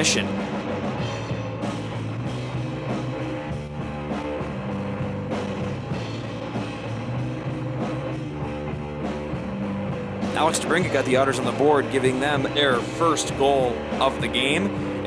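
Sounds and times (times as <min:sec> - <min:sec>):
drum-kit beat: 0:00.0 - 0:15.0
electric guitar: 0:00.0 - 0:15.0.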